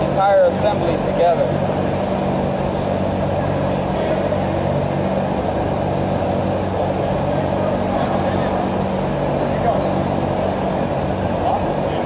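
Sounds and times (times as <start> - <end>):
machinery drone with low hum: 0.0 - 12.0.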